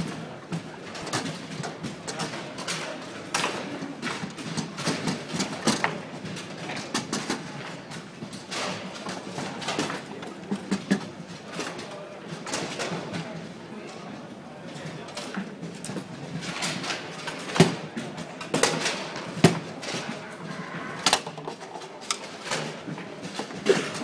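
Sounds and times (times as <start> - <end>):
ball clacking against table football players: 0.5 - 13.2, 15.1 - 24.0.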